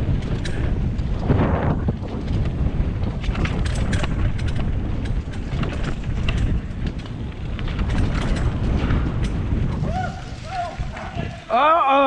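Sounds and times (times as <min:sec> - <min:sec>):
bike rattling and clicking: 0:00.0 - 0:12.0
wind buffeting microphone: 0:00.0 - 0:12.0.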